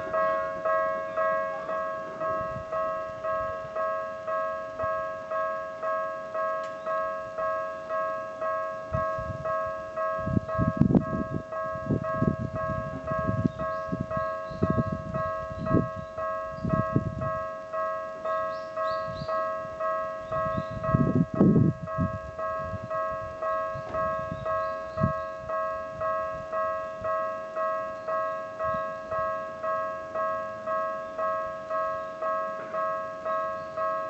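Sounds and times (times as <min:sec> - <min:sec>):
level crossing warning bells: 0:00.0 - 0:34.0.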